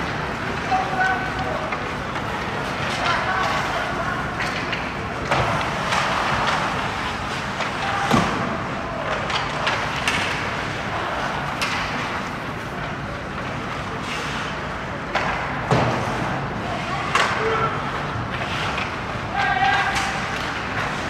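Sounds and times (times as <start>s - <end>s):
hockey sticks and puck clacking: 0.0s - 21.0s
skates on ice: 0.0s - 21.0s.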